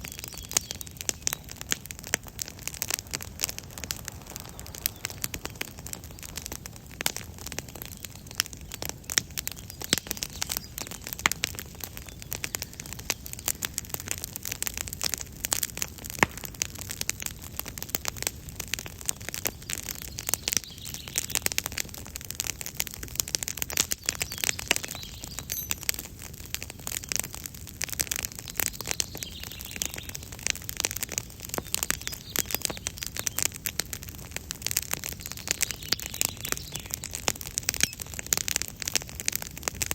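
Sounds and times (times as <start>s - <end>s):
faint birdsong: 0.0s - 15.2s, 18.9s - 39.5s
campfire crackling and popping: 0.0s - 39.9s.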